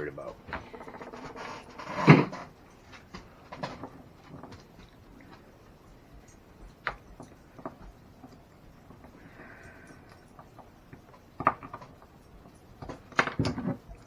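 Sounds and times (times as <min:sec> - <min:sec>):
light clicks and taps: 0:02.6 - 0:14.0.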